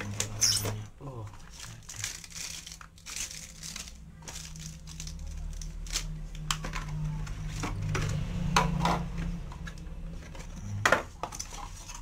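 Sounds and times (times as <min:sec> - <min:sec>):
plastic packaging clicks and knocks: 0:01.3 - 0:12.0.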